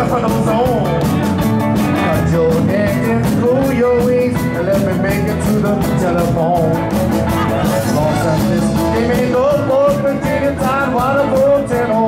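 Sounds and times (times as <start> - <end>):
drums steady beat: 0.0 - 12.0
live rock and roll band: 0.0 - 12.0
person singing: 2.0 - 12.0.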